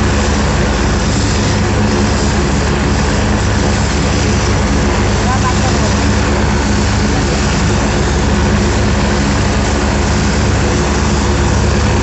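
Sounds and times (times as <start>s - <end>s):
helicopter engines and rotor idling: 0.0s - 12.0s.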